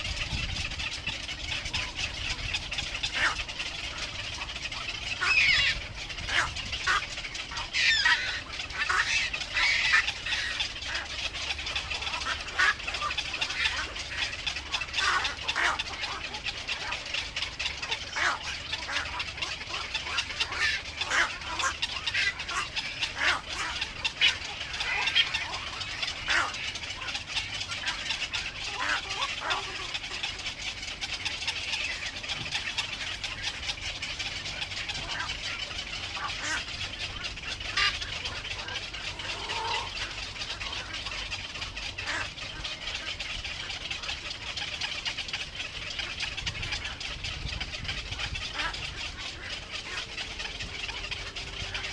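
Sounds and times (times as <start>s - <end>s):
baby birds chirping: 0.0s - 51.9s.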